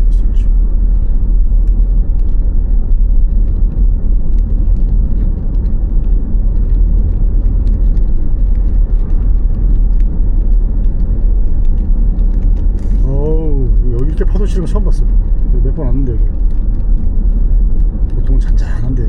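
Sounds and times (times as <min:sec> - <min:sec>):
car interior road noise: 0:00.0 - 0:19.0.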